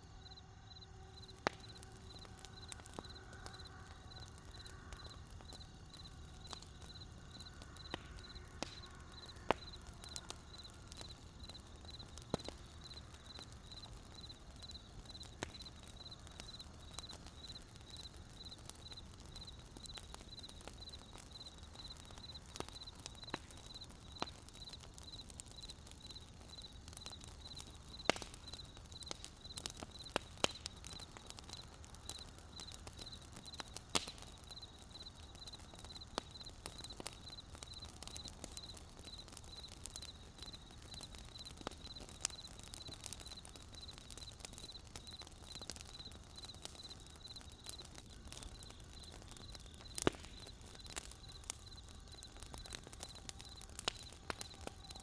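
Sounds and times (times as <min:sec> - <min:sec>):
burning wood crackling: 0:00.0 - 0:55.0.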